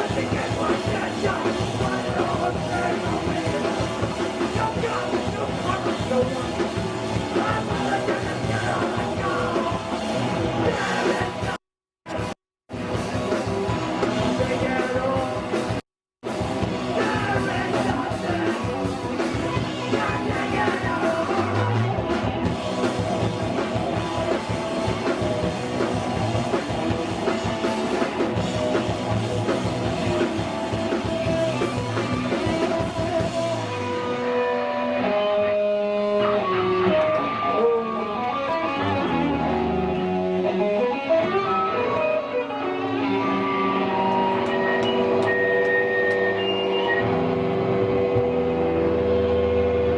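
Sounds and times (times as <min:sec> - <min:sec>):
punk band playing live: 0:00.0 - 0:49.9.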